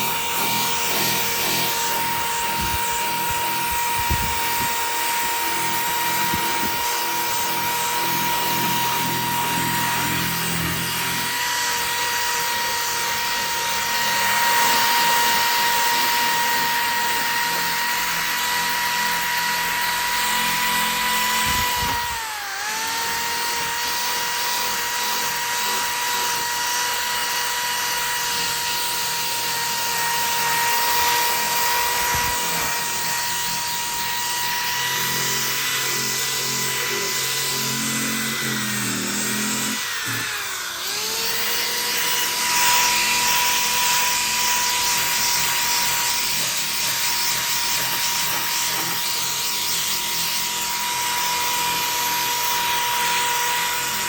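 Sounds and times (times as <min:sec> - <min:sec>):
power drill whining: 0:00.0 - 0:54.0.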